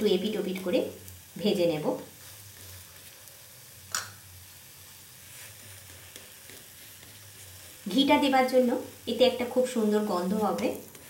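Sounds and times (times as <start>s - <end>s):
crepe sizzling in a pan: 0.0s - 11.0s.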